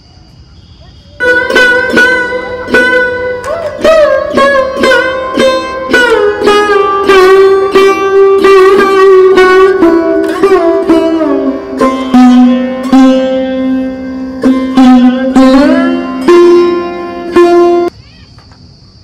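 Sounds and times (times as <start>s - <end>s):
plucked string instrument melody: 1.2s - 17.9s.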